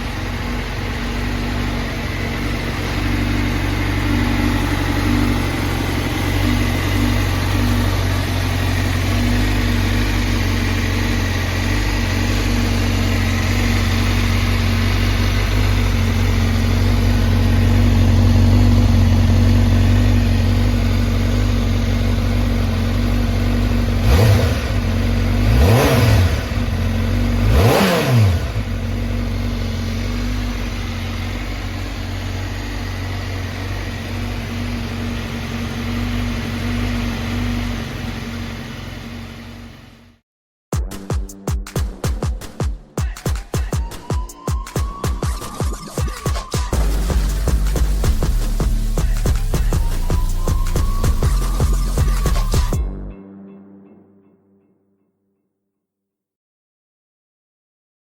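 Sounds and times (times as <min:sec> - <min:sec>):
motorcycle engine idling and revving: 0:00.0 - 0:40.2, 0:40.8 - 0:53.0.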